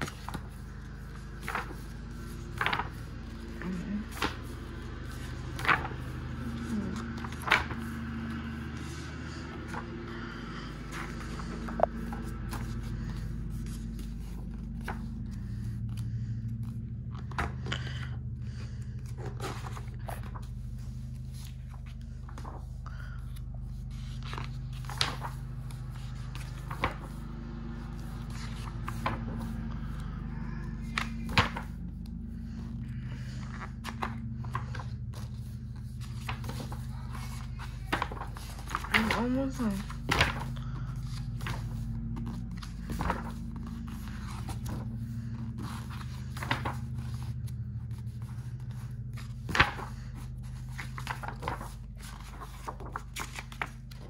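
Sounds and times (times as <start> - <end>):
book pages rustling and flapping: 0.0 - 54.0
steady low hum: 0.0 - 54.0.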